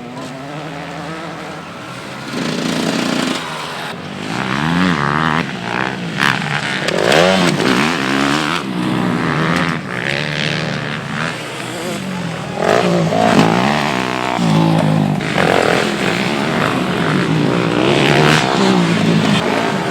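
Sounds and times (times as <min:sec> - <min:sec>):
motocross motorcycles revving: 0:00.0 - 0:19.9.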